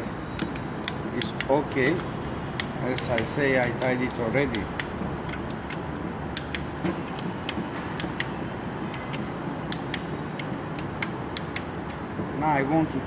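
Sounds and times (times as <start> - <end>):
torque wrench ratchet clicking: 0.0 - 12.0
steady background noise: 0.0 - 13.0.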